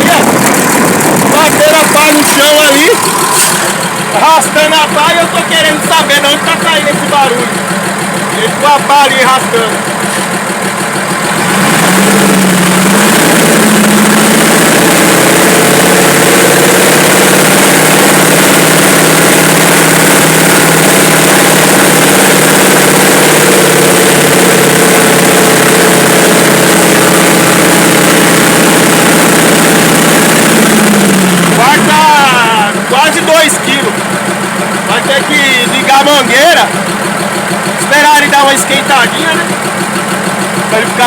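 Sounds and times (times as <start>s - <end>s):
diesel truck engine idling: 0.0s - 41.0s.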